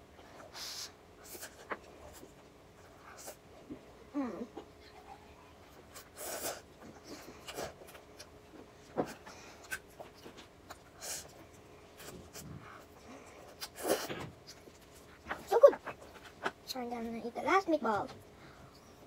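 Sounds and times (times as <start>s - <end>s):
quiet eating sounds: 0.0s - 16.8s.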